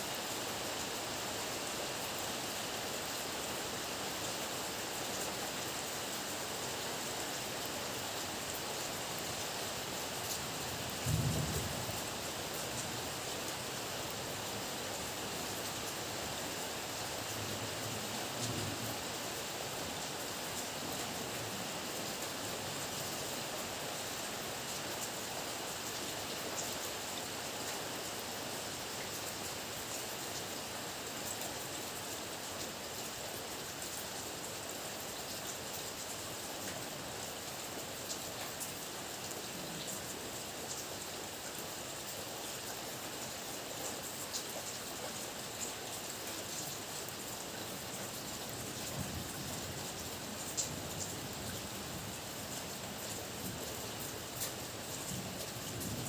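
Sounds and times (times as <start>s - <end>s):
heavy rain: 0.1s - 56.0s.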